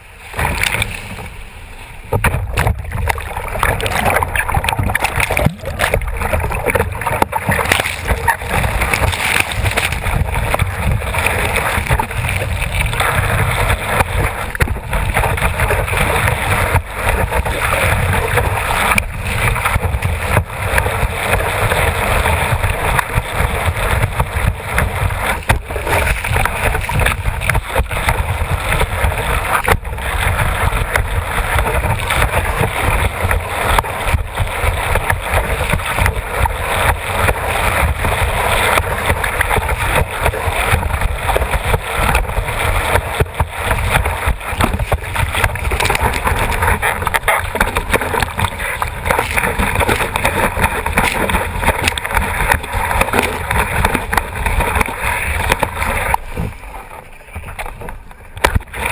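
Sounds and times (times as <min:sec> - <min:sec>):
water rushing and splashing: 0:00.0 - 0:58.9
wind buffeting microphone: 0:02.1 - 0:56.6.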